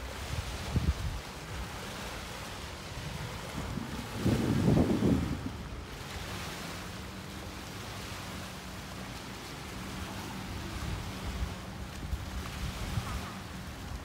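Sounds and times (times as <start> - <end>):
wind buffeting microphone: 0.0 - 8.6, 9.2 - 14.0
small waves lapping on sand: 0.0 - 14.0.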